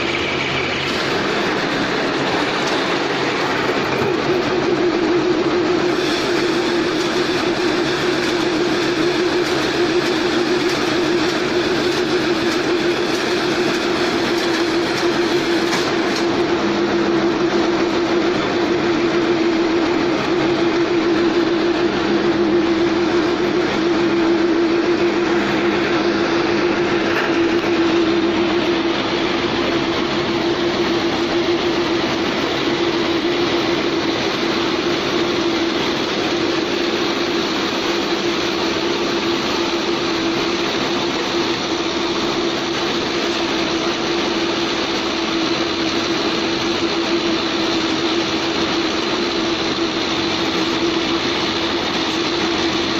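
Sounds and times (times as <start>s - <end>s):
baler machine drone: 0.0s - 52.9s.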